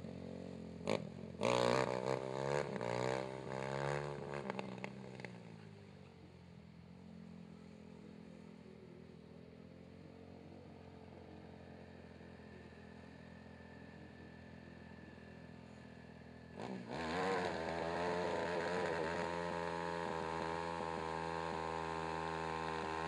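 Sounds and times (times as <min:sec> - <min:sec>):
atv engine revving: 0:00.0 - 0:05.8, 0:06.9 - 0:23.0.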